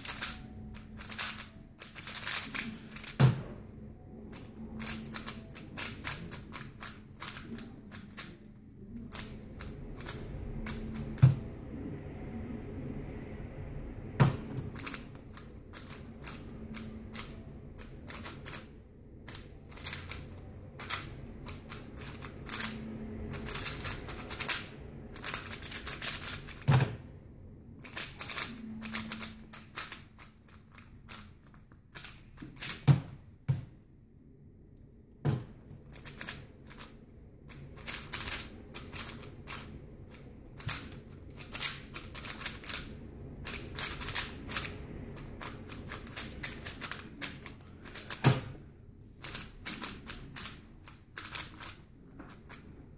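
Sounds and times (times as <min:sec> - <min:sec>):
puzzle cube plastic clicking: 0:00.0 - 0:03.4, 0:04.3 - 0:11.4, 0:14.6 - 0:18.7, 0:19.3 - 0:27.0, 0:27.8 - 0:33.2, 0:35.9 - 0:36.9, 0:37.5 - 0:44.8, 0:45.4 - 0:48.5, 0:49.2 - 0:52.6.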